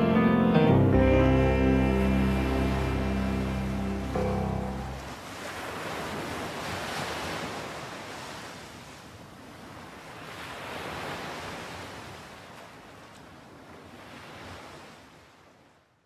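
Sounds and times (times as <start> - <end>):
waves breaking on shore: 1.1 - 15.8.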